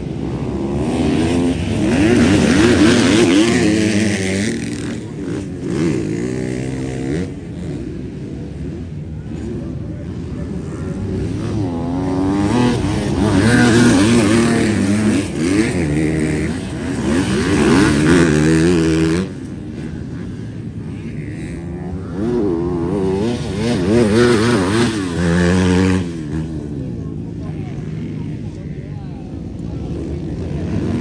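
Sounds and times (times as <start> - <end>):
motocross bikes revving: 0.0 - 31.0.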